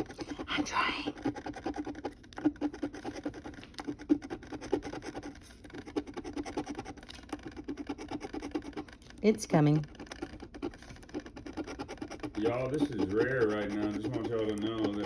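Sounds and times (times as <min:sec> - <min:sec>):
lottery ticket being scratched: 0:00.0 - 0:15.0.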